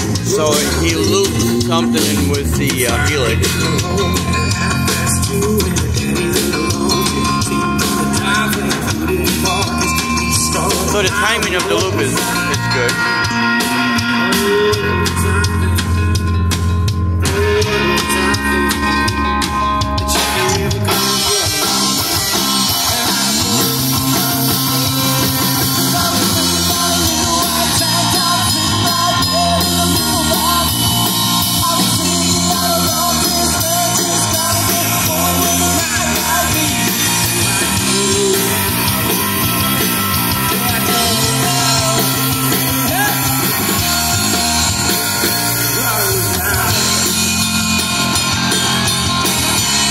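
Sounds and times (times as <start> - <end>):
bass guitar: 0.0 - 49.9
drum kit: 0.0 - 49.9
electric guitar: 0.0 - 49.9.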